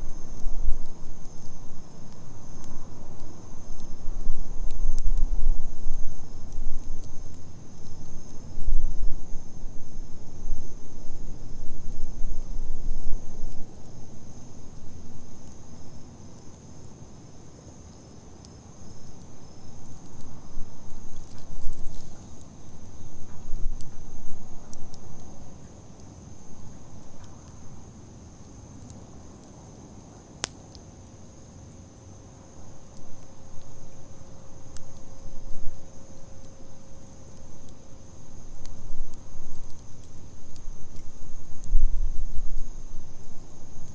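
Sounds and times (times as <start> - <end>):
campfire crackling: 0.0 - 43.9
insects chirring: 0.0 - 43.9.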